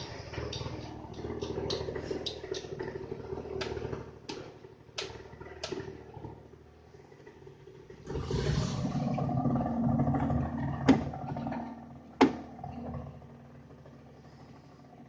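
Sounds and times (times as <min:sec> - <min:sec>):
scooter engine idling: 0:00.0 - 0:08.1, 0:09.0 - 0:15.0.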